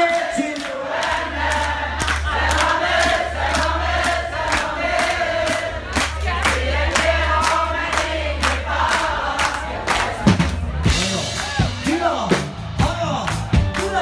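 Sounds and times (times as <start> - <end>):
crowd singing along: 0.0 - 11.6
crowd clapping in time: 0.1 - 11.2, 13.2 - 14.0
steady low bass: 0.9 - 14.0.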